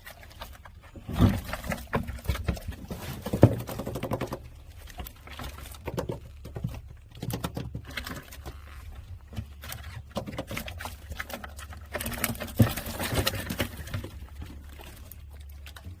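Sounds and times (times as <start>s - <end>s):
fish flapping in a container: 0.0s - 16.0s.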